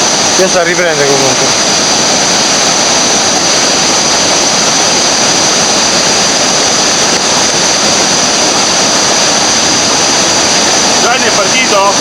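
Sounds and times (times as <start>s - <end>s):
river rapids rushing: 0.0s - 12.0s.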